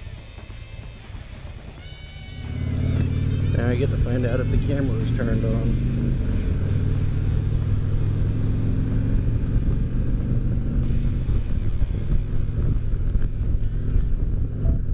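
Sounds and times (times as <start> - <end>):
motorcycle engine running: 0.0 - 14.9
wind and road noise: 0.0 - 14.9.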